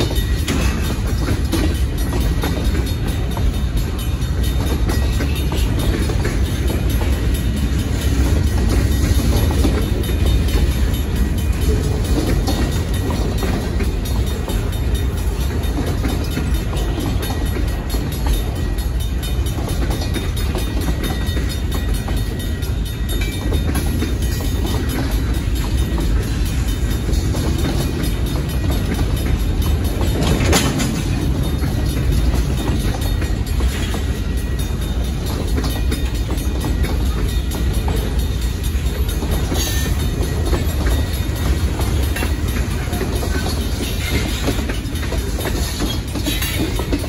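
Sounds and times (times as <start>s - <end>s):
freight train wheels clacking on rails: 0.0s - 47.0s.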